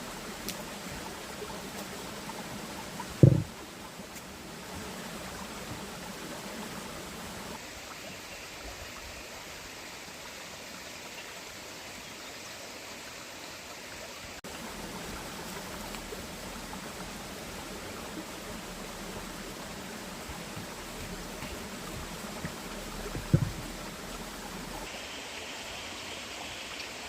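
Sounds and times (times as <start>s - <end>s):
stream water running: 0.0s - 27.0s.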